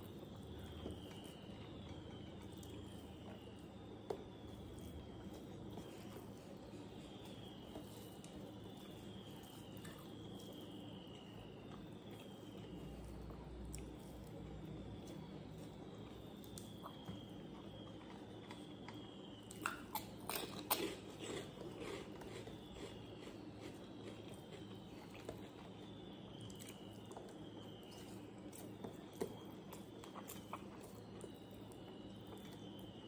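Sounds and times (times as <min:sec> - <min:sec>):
soft crunchy eating clicks: 0:00.0 - 0:33.0.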